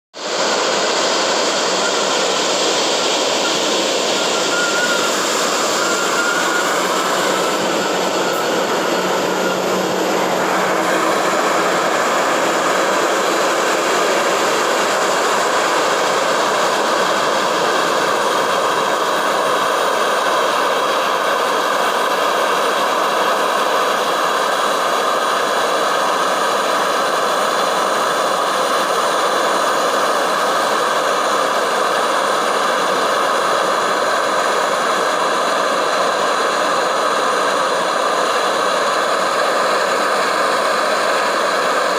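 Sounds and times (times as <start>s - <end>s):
jet engines running: 0.2s - 41.9s.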